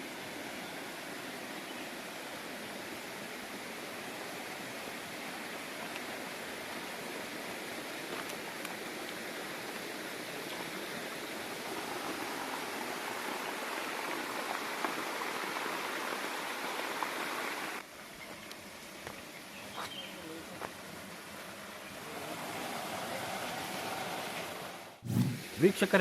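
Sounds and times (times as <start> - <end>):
stream water rushing: 0.0 - 18.0, 20.4 - 26.0.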